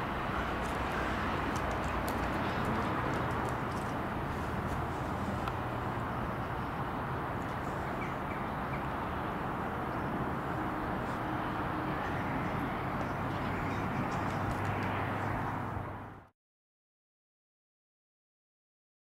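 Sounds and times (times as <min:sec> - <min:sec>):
diesel locomotive engine drone: 0:00.0 - 0:16.3.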